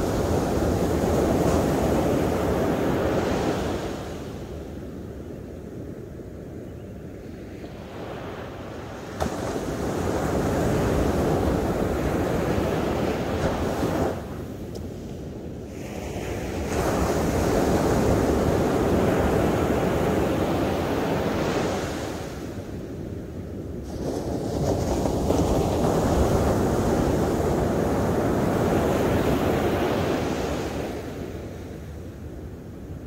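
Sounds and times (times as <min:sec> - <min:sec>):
ocean surf breaking on beach: 0:00.0 - 0:04.7, 0:07.8 - 0:33.0.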